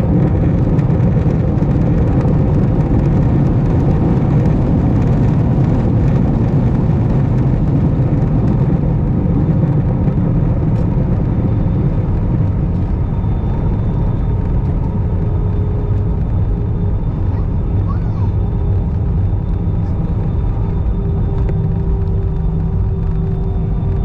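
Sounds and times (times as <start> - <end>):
aircraft engines rumbling: 0.0 - 24.0
aircraft rolling on the ground: 0.0 - 24.0.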